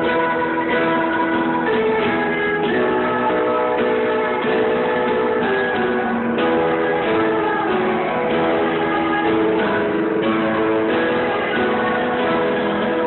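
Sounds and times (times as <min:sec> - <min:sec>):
strummed guitars: 0:00.0 - 0:13.0.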